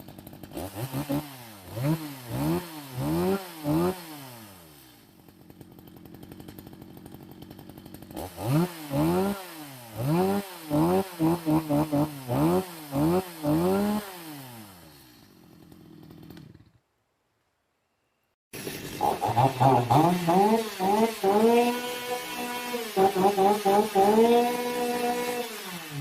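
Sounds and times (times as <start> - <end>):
chainsaw idling and revving: 0.0 - 16.8, 18.6 - 26.0.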